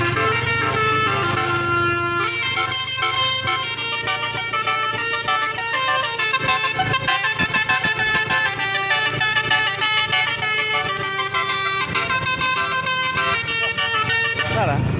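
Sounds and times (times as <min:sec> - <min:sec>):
musical air horns playing tune: 0:00.0 - 0:14.6
bus engine low rumble: 0:00.0 - 0:14.9.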